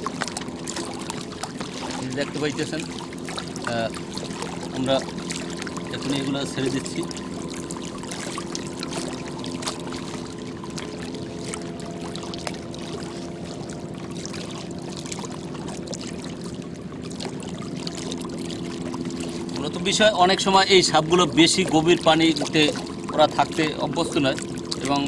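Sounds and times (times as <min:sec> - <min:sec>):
steady low drone: 0:00.0 - 0:25.0
waves lapping against bank: 0:00.0 - 0:25.0.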